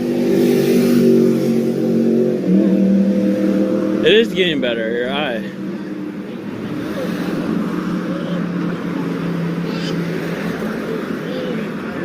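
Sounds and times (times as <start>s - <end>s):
motor vehicle droning: 0.0s - 12.0s.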